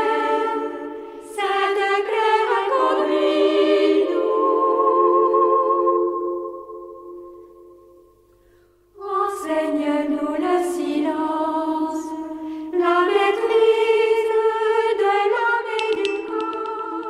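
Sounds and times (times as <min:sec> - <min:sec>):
choir singing a hymn: 0:00.0 - 0:07.9, 0:09.0 - 0:17.0.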